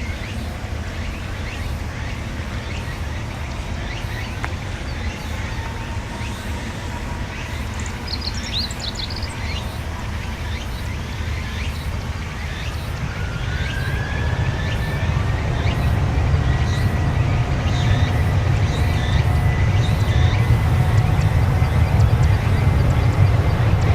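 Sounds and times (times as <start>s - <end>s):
jet engine whine: 0.0s - 23.9s
jet engines rumbling: 0.0s - 23.9s.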